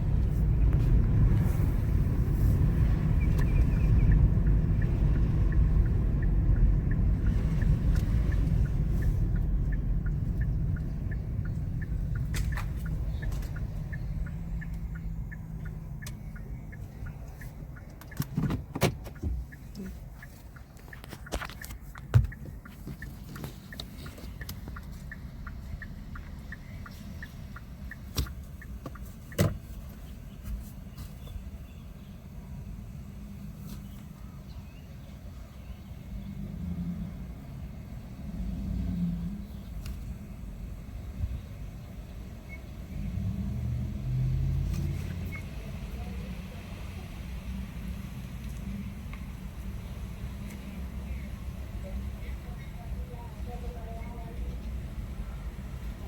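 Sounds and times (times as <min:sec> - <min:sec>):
car engine and road rumble: 0:00.0 - 0:56.0
faint steady ticking: 0:00.0 - 0:56.0.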